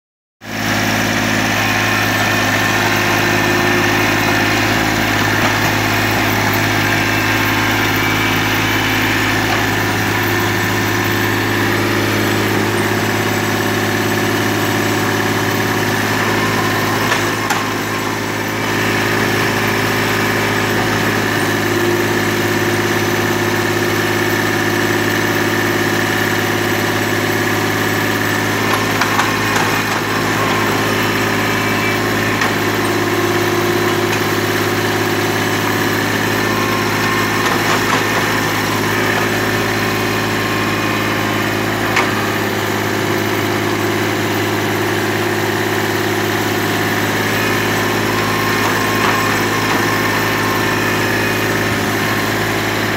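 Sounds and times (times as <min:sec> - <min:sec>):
excavator diesel engine running: 0:00.4 - 0:52.9.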